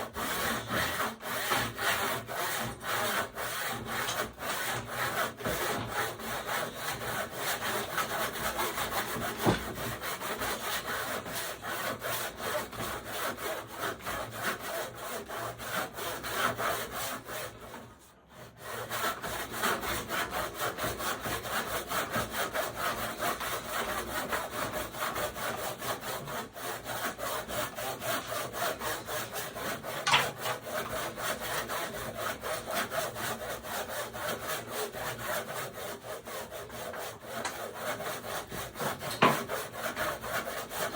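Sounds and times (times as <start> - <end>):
handsaw cutting wood: 0.0 - 40.9.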